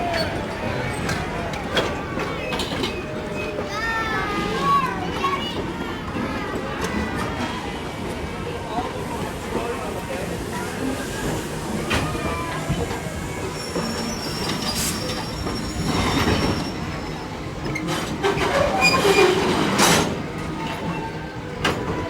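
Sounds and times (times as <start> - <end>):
wheels squealing: 0.0 - 7.3, 9.1 - 22.0
rail clacks: 0.0 - 22.0
train cars rolling on track: 0.0 - 22.0.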